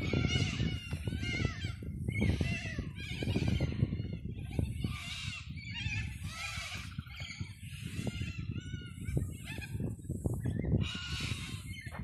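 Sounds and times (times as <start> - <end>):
birds calling and chattering: 0.0 - 12.0.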